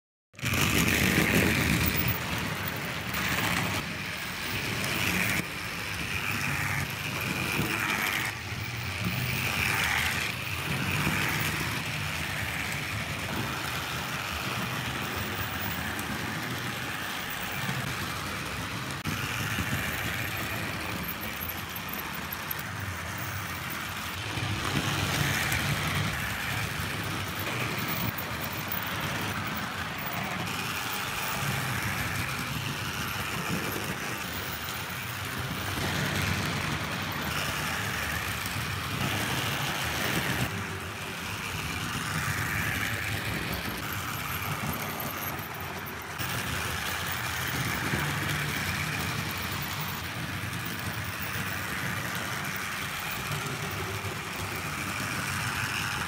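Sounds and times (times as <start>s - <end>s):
wheels rumbling on rails: 0.3s - 56.0s.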